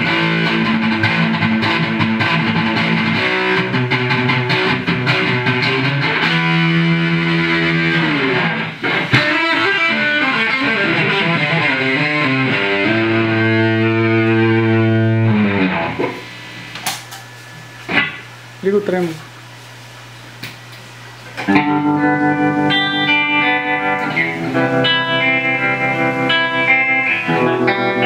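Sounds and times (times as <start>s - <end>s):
electric guitar chords: 0.0s - 18.6s, 21.4s - 28.0s.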